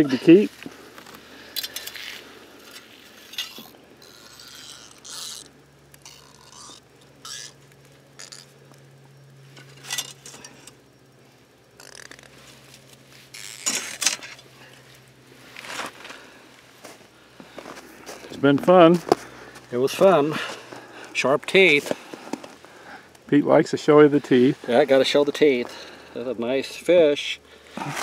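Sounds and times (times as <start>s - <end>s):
faint steady low hum: 0.0s - 28.0s.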